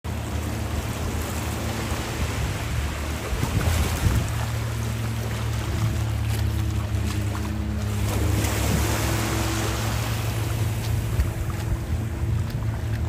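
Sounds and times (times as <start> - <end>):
boat engine droning: 0.0 - 13.0
waves washing on shore: 0.1 - 13.0
wind on microphone: 1.4 - 13.0.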